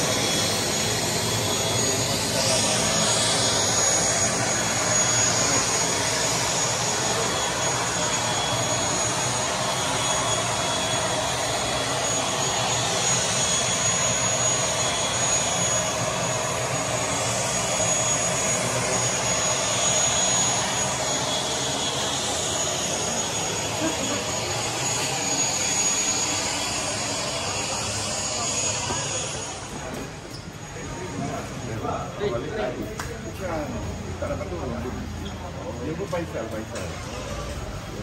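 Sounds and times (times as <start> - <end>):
aircraft engines running: 0.0 - 38.0
high turbine whine: 0.0 - 38.0.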